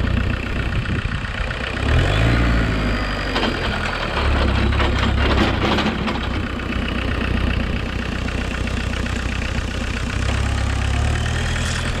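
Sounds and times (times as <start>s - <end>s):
diesel tractor engine droning: 0.0s - 12.0s.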